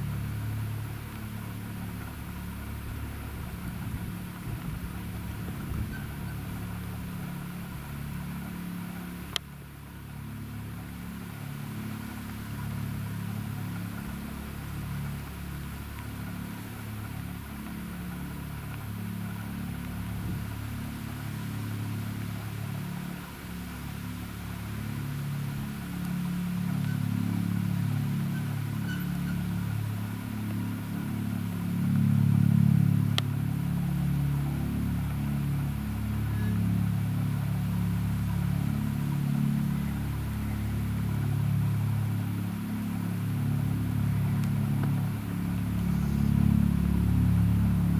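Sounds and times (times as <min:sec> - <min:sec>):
helicopter rotor and turbine: 0:00.0 - 0:47.9.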